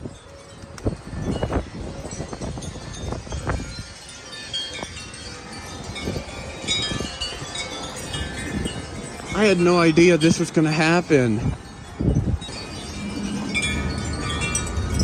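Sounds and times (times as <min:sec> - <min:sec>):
wind buffeting the microphone: 0:00.0 - 0:15.0
wind chimes ringing: 0:00.0 - 0:15.0.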